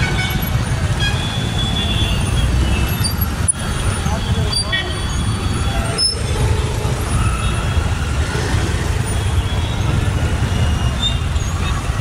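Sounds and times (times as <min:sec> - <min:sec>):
traffic engines and road noise: 0:00.0 - 0:12.0.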